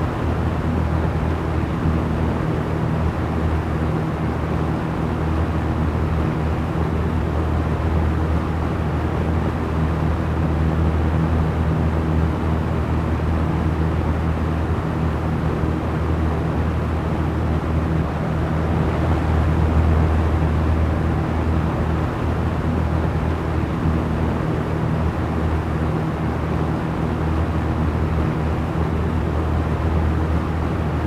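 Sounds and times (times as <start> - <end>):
small fan humming: 0.0 - 31.0.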